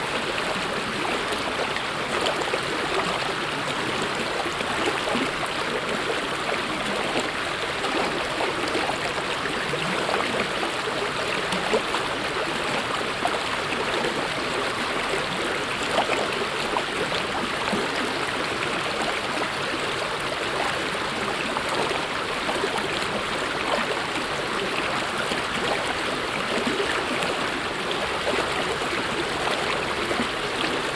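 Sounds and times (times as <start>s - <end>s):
stream flowing over rocks: 0.0s - 30.9s.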